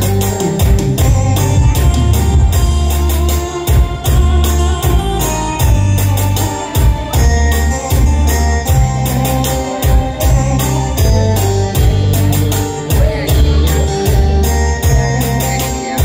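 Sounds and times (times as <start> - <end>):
drum beat: 0.0 - 16.0
sustained keyboard melody: 0.0 - 16.0.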